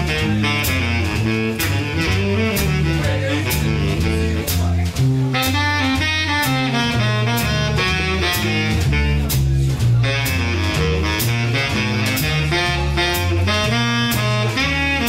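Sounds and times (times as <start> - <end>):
baritone saxophone: 0.0 - 15.0
double bass: 0.0 - 15.0
drums with cymbal strokes: 0.0 - 15.0.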